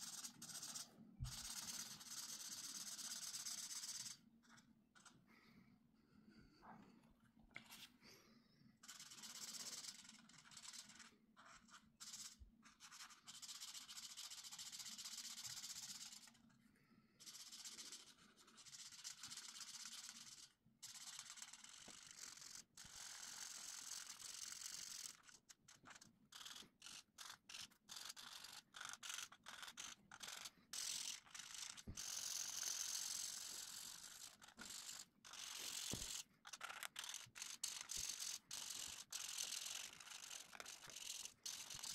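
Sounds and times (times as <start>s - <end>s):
marker scratching on paper: 0.0s - 5.3s, 7.6s - 8.0s, 8.8s - 16.4s, 17.2s - 41.9s.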